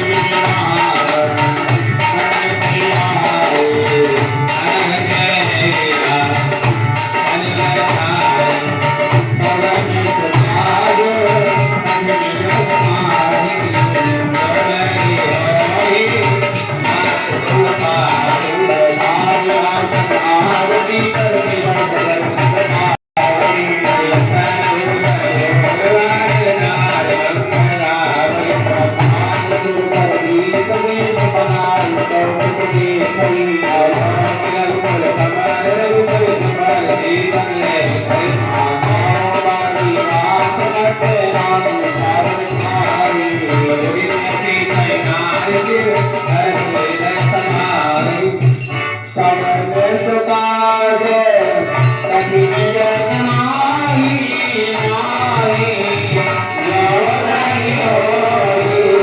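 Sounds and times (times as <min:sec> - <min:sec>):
fast rattling percussion beat: 0:00.0 - 0:49.1, 0:51.8 - 0:59.0.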